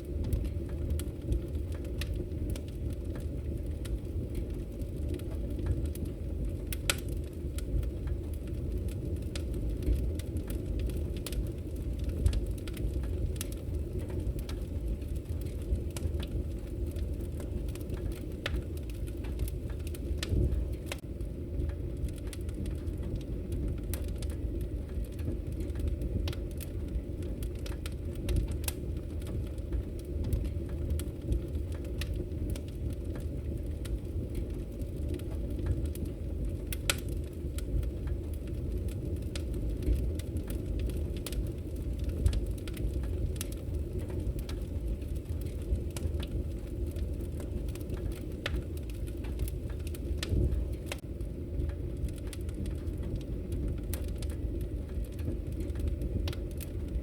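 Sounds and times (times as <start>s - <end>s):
fire low rumble: 0.0s - 57.0s
wood fire crackling and popping: 0.0s - 57.0s.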